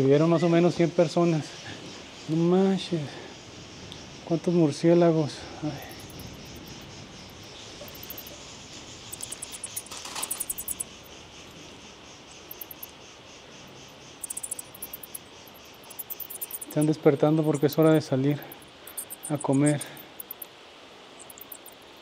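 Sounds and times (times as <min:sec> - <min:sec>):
steady hiss: 0:00.0 - 0:22.0
bats chittering: 0:01.3 - 0:20.5, 0:21.2 - 0:22.0.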